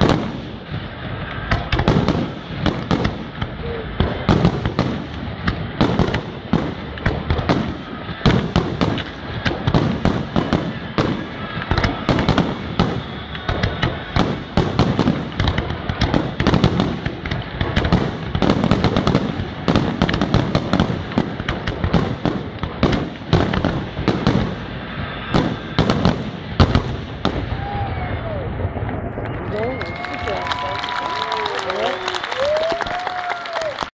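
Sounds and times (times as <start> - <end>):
firework shells bursting: 0.0 - 27.5.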